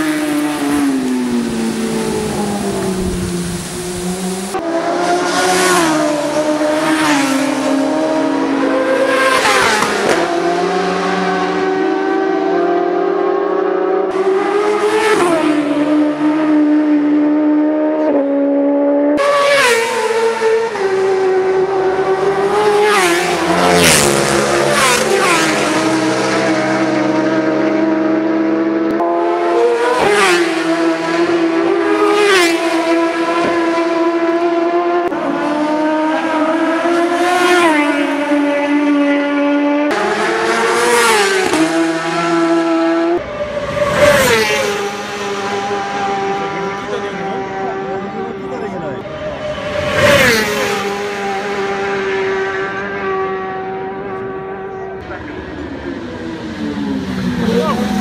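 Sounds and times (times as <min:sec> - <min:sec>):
racing motorcycles passing: 0:00.0 - 0:58.0.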